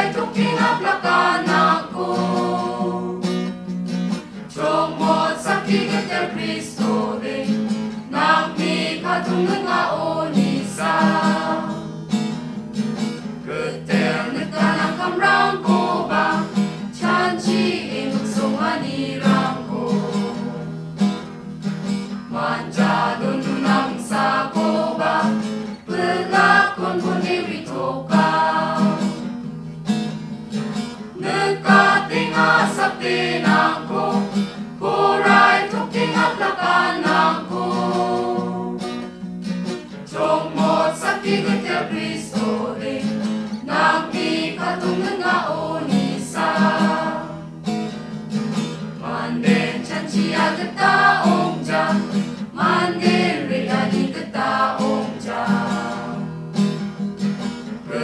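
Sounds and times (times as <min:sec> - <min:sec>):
mixed choir singing in harmony: 0:00.0 - 0:03.5, 0:04.4 - 0:11.9, 0:13.4 - 0:20.7, 0:22.3 - 0:29.3, 0:31.2 - 0:39.2, 0:40.0 - 0:47.6, 0:49.0 - 0:56.4
strummed acoustic guitar: 0:00.0 - 0:58.0.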